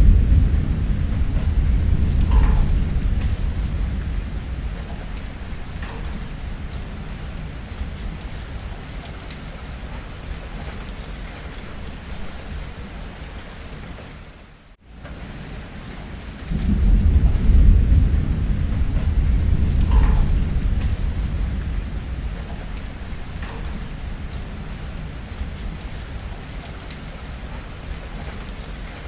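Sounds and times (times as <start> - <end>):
deep rumble of thunder: 0.0 - 13.4, 15.3 - 29.0
steady rain falling: 0.0 - 29.0.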